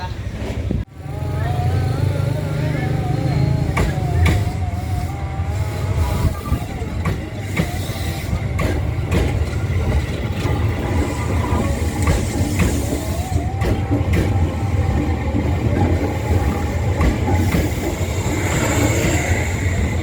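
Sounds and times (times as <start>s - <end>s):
train rumbling on rails: 0.0s - 20.0s
wheels clicking over rail joints: 3.0s - 20.0s.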